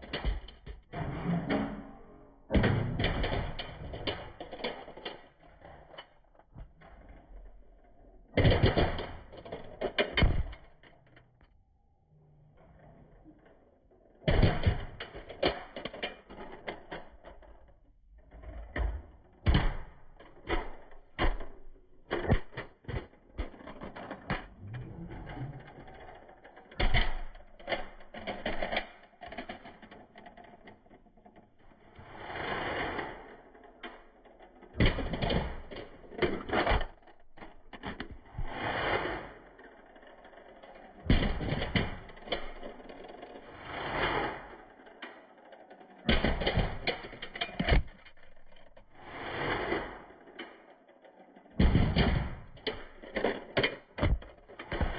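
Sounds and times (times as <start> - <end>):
toy cars clattering: 2.9 - 11.4, 13.3 - 18.5, 20.2 - 31.6, 33.1 - 38.4, 39.0 - 43.6, 44.2 - 49.1, 49.8 - 54.9
toy car rolling rattle: 3.0 - 11.5, 13.0 - 18.7, 20.2 - 54.9.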